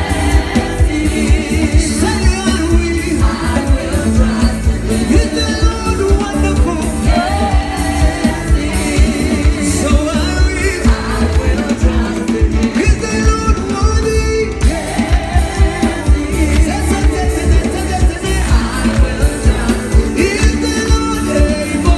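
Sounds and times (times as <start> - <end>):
band playing gospel music: 0.0 - 21.9.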